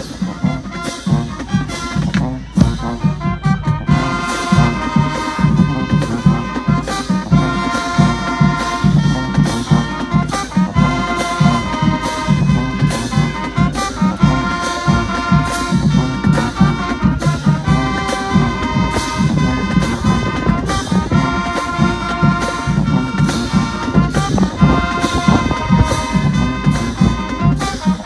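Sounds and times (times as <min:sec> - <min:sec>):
brass section playing chords: 0:00.0 - 0:28.0
drum and cymbal hits: 0:00.0 - 0:28.0.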